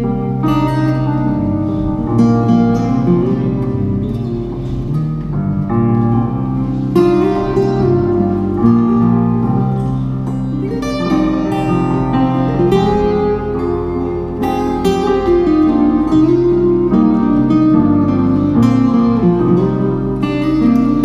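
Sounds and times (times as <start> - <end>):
acoustic guitar and plucked strings: 0.0 - 21.0.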